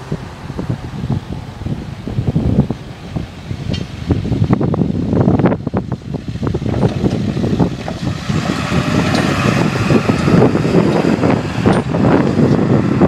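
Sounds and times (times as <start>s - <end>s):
truck driving past: 0.0s - 4.0s, 6.4s - 13.0s
wind buffeting microphone: 0.0s - 13.0s.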